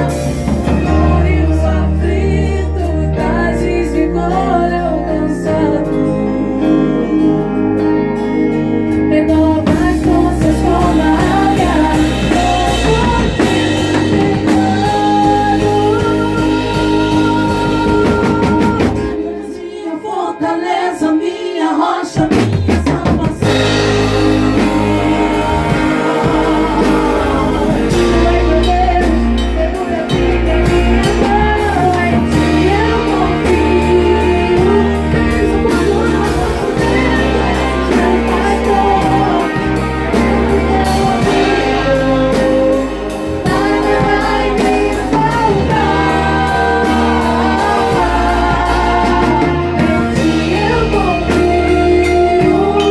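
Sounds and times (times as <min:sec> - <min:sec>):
band playing gospel song: 0:00.0 - 0:52.9
person singing: 0:00.0 - 0:52.9.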